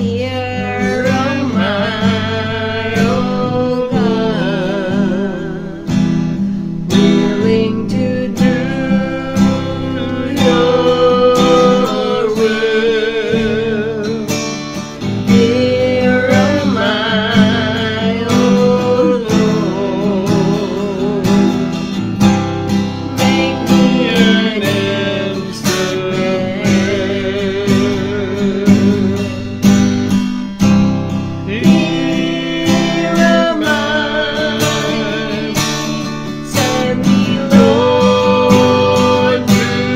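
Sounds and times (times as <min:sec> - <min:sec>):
woman singing: 0:00.0 - 0:06.0, 0:06.9 - 0:14.6, 0:15.3 - 0:22.0, 0:23.0 - 0:29.6, 0:31.5 - 0:39.9
acoustic guitar strumming: 0:00.0 - 0:39.9.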